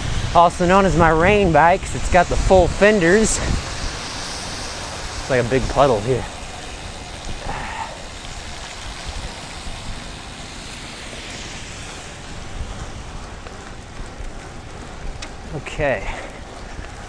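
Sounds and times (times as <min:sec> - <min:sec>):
bike tyres hissing through water: 0:00.0 - 0:17.0.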